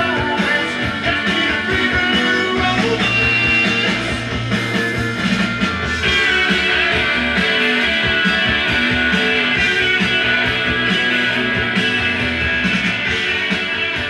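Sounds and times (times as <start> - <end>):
guitar music from vinyl record: 0.0 - 14.0.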